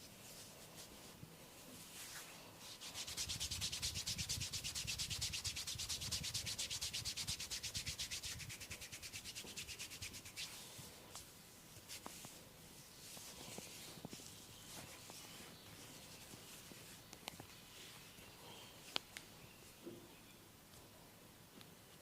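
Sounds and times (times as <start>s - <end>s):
hands rubbing hair: 0.0s - 18.1s.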